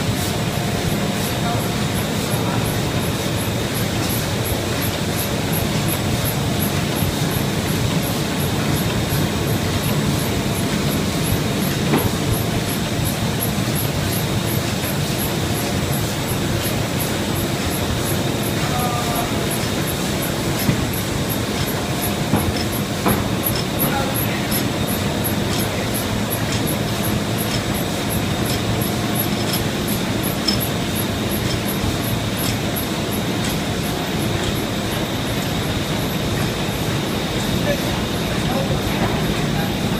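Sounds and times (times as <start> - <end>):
laminating machine rumble: 0.0 - 39.9.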